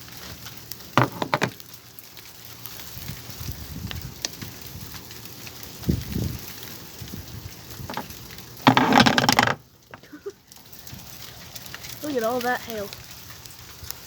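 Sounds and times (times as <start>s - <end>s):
hailstones ticking on hard surfaces: 0.0s - 14.0s.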